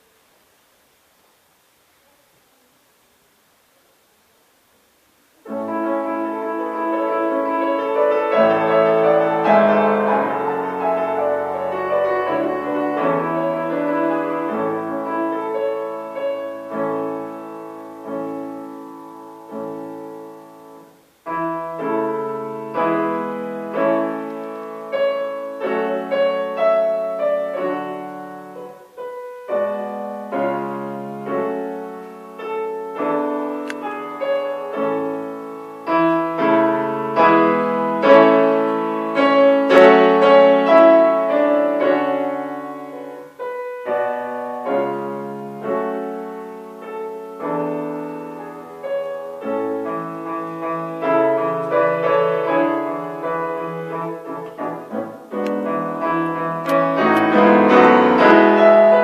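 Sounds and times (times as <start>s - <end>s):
slow solo piano piece: 5.4s - 59.0s.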